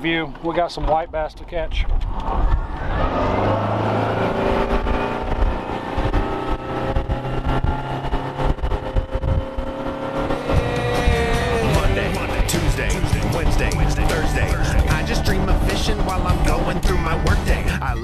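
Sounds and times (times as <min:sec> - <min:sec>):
outboard motor accelerating: 0:02.2 - 0:18.0.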